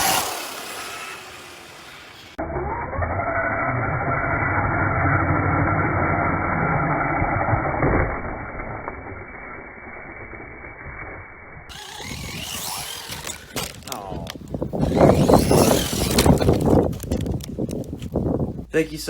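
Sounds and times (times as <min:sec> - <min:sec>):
electric motor whine: 0:00.0 - 0:17.5
drivetrain rumble: 0:00.0 - 0:18.8.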